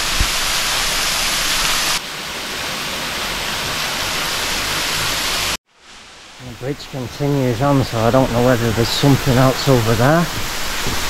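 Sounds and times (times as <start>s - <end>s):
waterfall splashing into pool: 0.0s - 11.0s.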